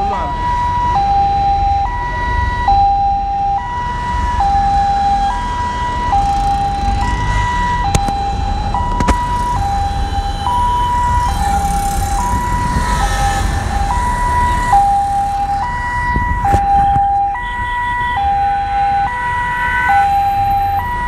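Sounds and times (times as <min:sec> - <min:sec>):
road and engine rumble: 0:00.0 - 0:21.0
two-tone emergency siren: 0:00.0 - 0:21.0.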